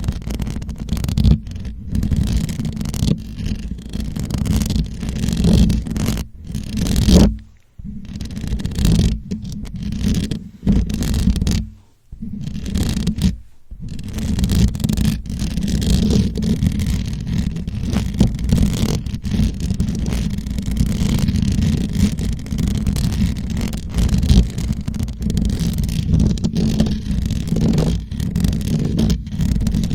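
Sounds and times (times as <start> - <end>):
fingers scratching on microphone: 0.0 - 29.9.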